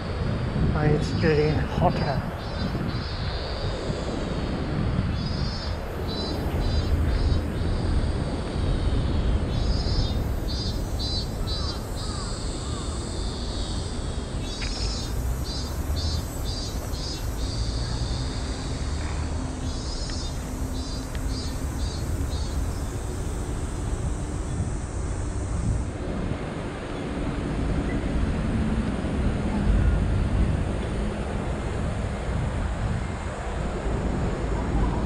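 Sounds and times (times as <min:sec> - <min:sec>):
cicadas calling: 0:00.0 - 0:35.0.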